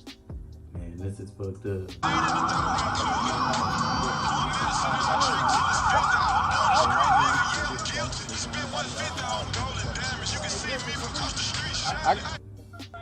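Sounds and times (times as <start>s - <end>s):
siren yelping: 2.0s - 13.0s.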